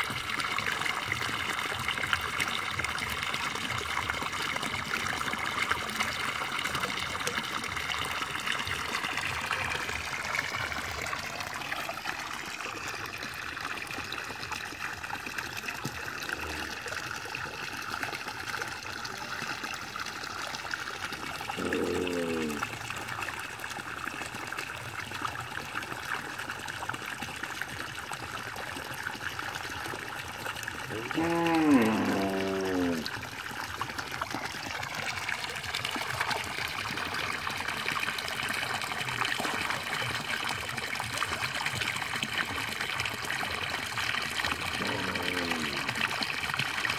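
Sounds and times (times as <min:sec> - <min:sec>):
water pouring into a pond: 0:00.0 - 0:46.9.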